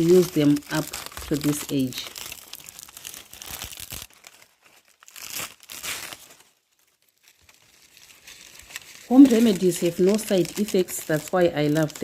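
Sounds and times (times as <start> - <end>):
dry leaves crackling: 0.0 - 12.0.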